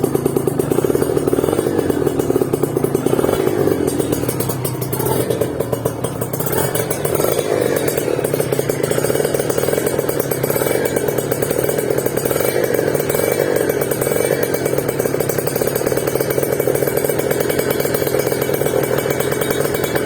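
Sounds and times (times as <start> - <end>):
motorcycle engine exhaust pulse: 0.0 - 20.0.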